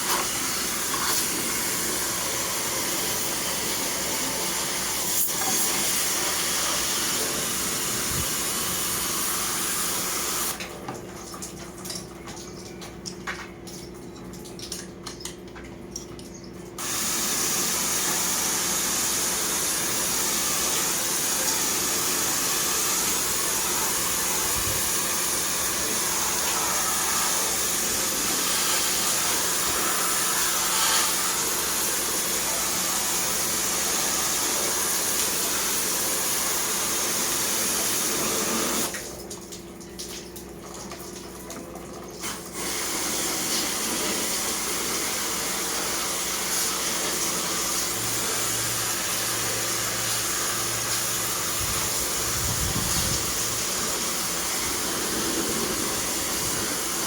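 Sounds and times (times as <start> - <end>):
water jet spraying: 0.0 - 10.6, 16.8 - 39.1, 42.2 - 57.0.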